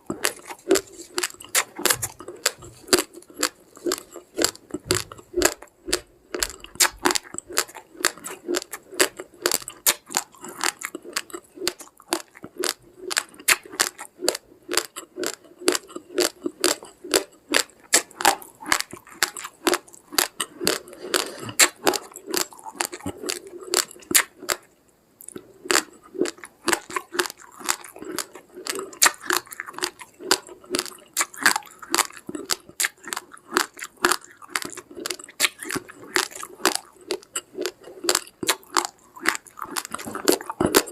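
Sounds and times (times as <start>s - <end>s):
chewing crunchy rice: 0.0s - 40.9s.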